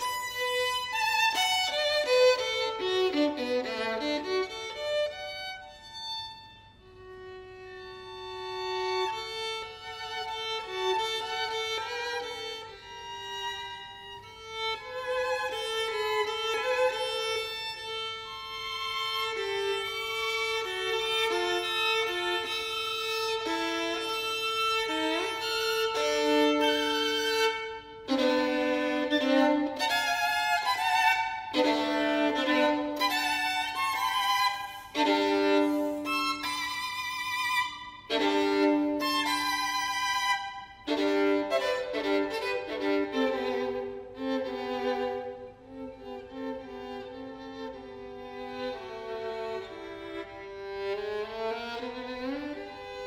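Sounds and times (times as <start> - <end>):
violin playing classical piece: 0.0 - 53.0.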